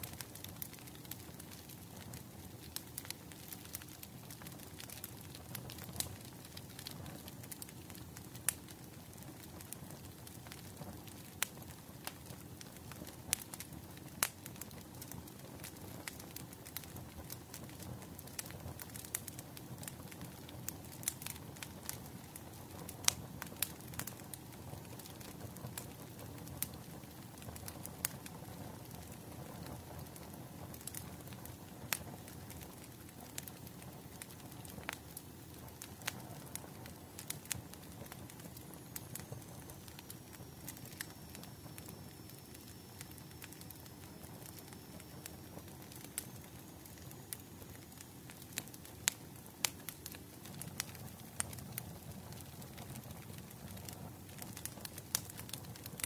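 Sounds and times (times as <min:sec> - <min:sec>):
fire crackles and pops: 0:00.0 - 0:56.0
low rush of fire: 0:00.0 - 0:56.0.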